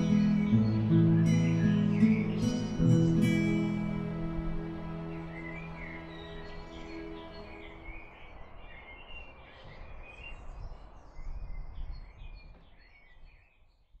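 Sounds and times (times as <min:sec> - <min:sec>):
small birds chirping and singing: 0:00.0 - 0:14.0.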